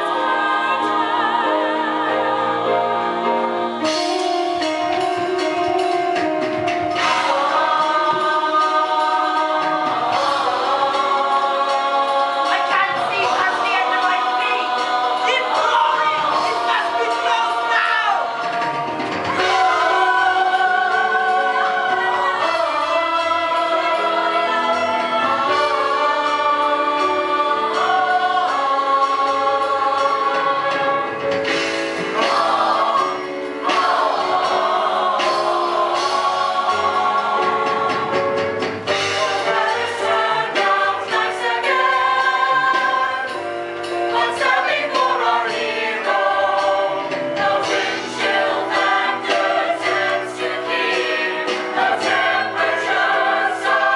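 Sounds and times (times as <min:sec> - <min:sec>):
choir singing: 0:00.0 - 0:06.0, 0:06.9 - 0:53.9
musical accompaniment: 0:00.0 - 0:53.9.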